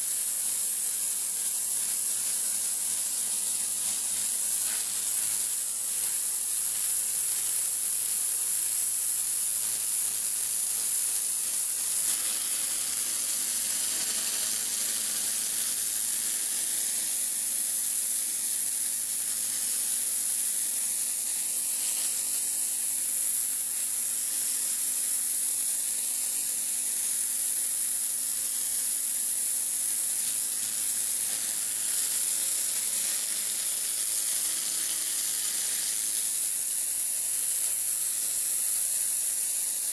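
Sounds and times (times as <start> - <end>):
pressure washer spraying stone: 0.0 - 39.9.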